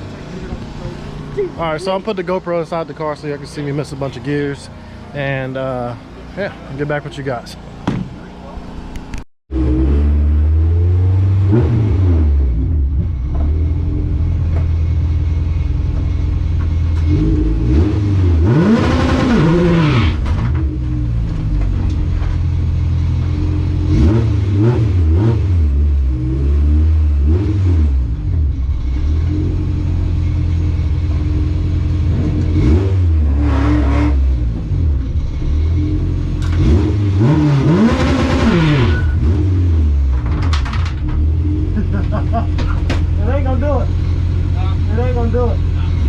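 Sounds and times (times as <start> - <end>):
drag car engine revving: 0.0 - 46.0.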